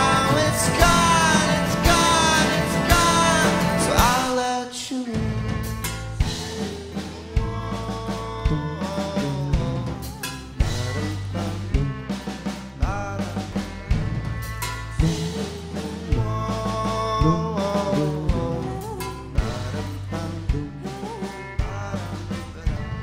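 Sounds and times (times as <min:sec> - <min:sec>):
drum hits: 0:00.0 - 0:04.6, 0:05.2 - 0:23.0
live band playing: 0:00.0 - 0:23.0.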